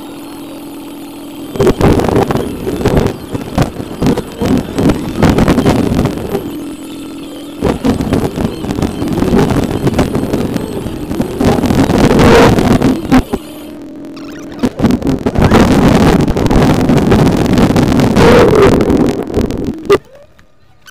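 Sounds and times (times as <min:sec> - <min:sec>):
steady low hum: 0:00.0 - 0:20.8
car engine and road noise: 0:00.0 - 0:20.9
wind buffeting microphone: 0:01.4 - 0:13.8, 0:14.4 - 0:20.0.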